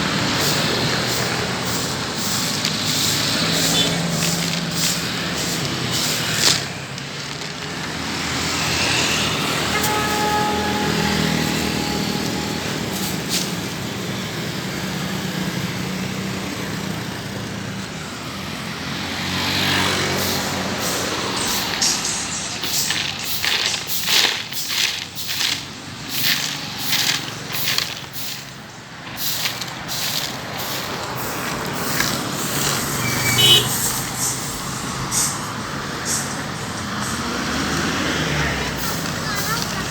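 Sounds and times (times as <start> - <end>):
vehicle engine running: 0.0 - 17.9, 18.6 - 39.9
road traffic: 0.0 - 39.9
broom sweeping sand off road: 0.1 - 13.9, 19.3 - 39.9.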